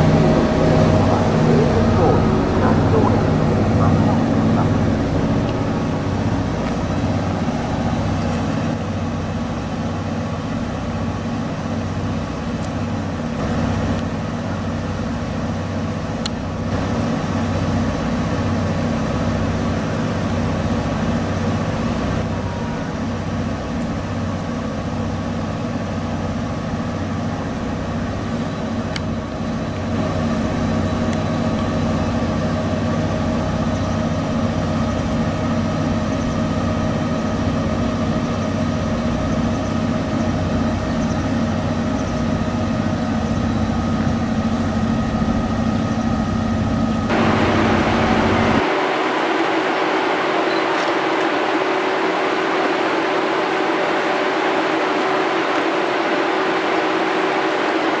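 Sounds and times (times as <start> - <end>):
diesel generator droning: 0.0 - 58.0.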